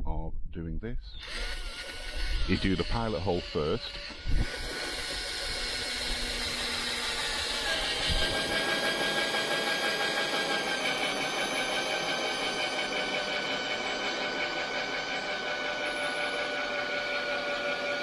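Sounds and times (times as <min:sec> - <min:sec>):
cordless drill cutting plastic: 0:01.2 - 0:18.0.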